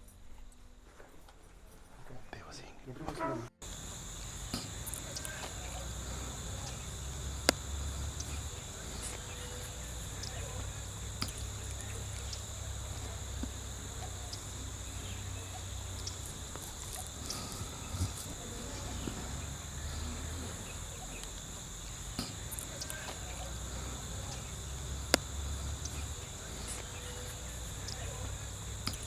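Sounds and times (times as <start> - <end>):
faint clicks: 3.6 - 29.0
insects trilling: 3.6 - 29.0.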